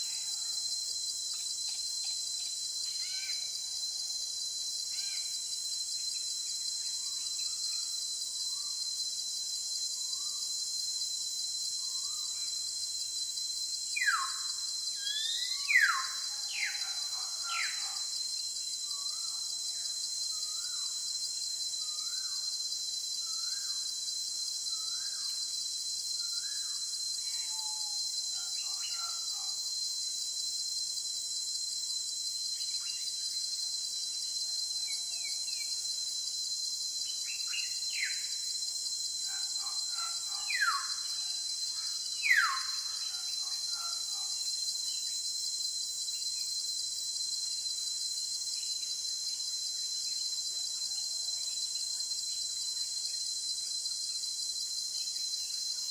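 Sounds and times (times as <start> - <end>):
high-pitched insect drone: 0.0 - 55.9.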